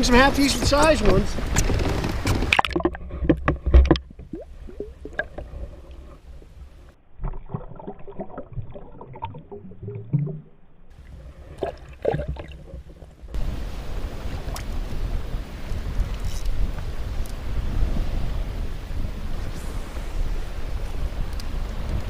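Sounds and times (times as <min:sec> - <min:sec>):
water sloshing against kayak: 0:00.0 - 0:22.0.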